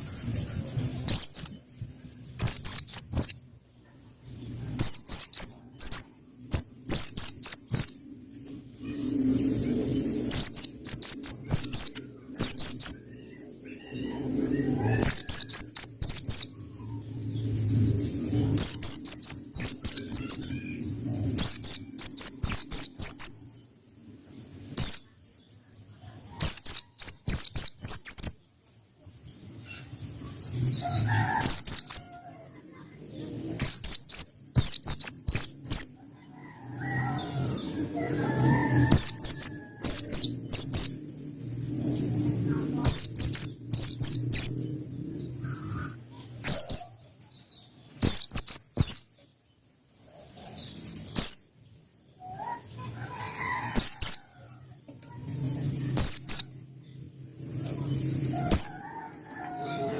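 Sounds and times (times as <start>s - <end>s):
songbird twittering chirps: 0.0s - 59.9s.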